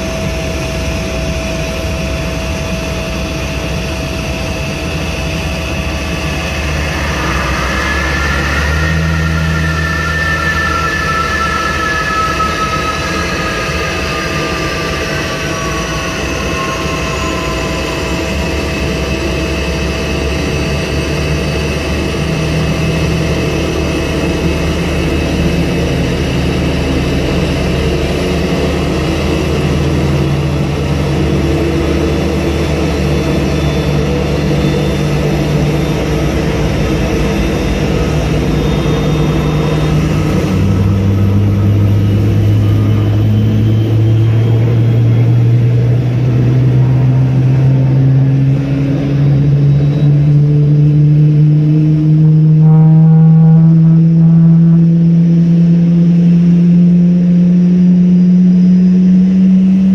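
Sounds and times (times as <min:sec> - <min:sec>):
deeper engine note rising: 0:00.0 - 0:59.9
heavy low rumble: 0:00.0 - 0:59.9
jet turbine whine: 0:00.0 - 0:59.9.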